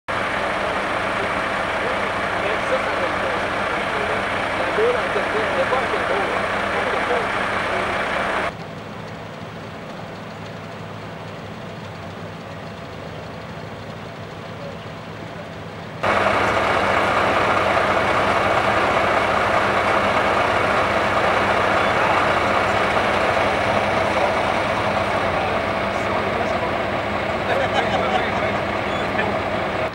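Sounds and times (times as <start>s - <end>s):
pickup truck engine idling: 0.1s - 29.9s.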